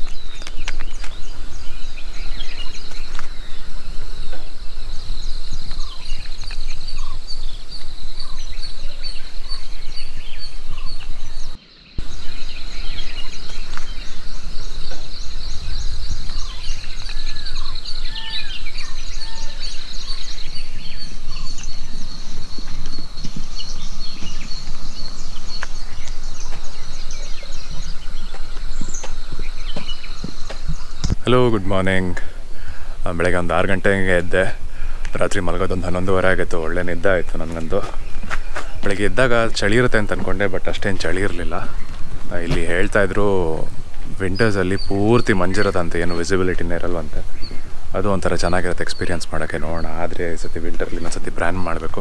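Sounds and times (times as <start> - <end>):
birds chirping: 0.0 - 52.0
low wind rumble: 0.0 - 52.0.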